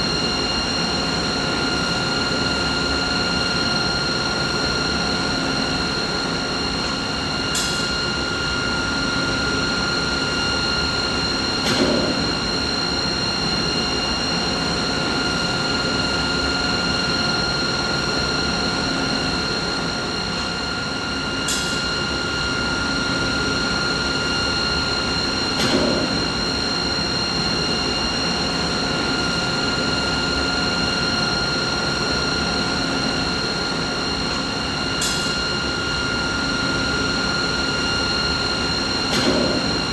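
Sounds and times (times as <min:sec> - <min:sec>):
machinery hum with whining tones: 0:00.0 - 0:39.9.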